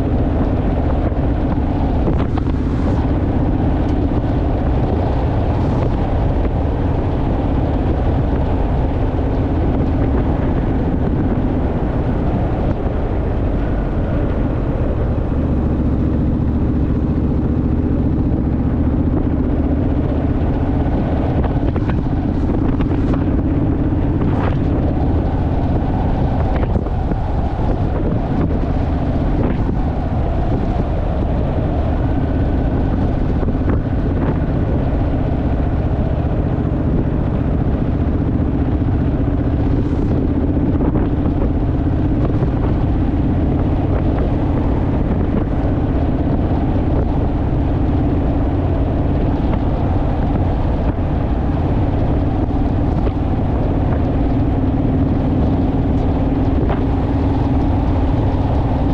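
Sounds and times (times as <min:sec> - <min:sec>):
motorcycle engine cruising: 0:00.0 - 0:58.9
wind rushing over microphone: 0:00.0 - 0:58.9.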